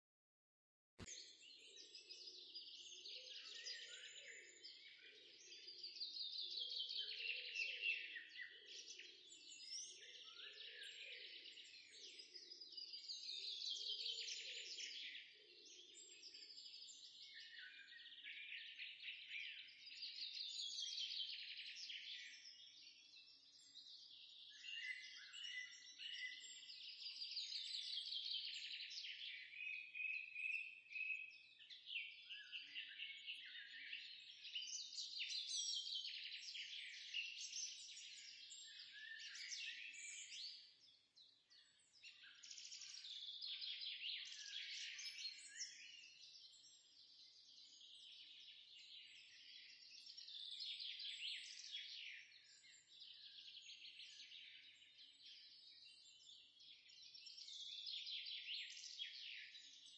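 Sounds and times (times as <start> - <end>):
small birds chirping and twittering: 1.0 - 59.9.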